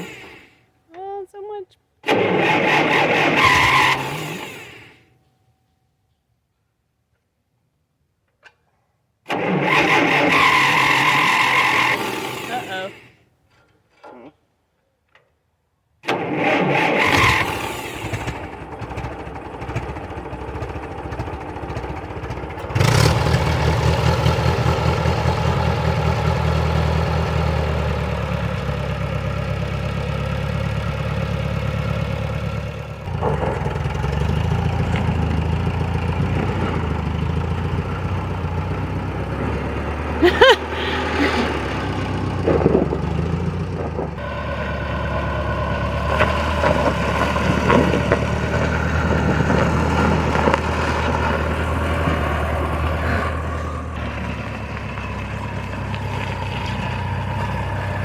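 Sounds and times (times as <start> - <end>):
tractor engine cranking and running: 2.0 - 5.8, 9.3 - 15.4, 16.0 - 58.0.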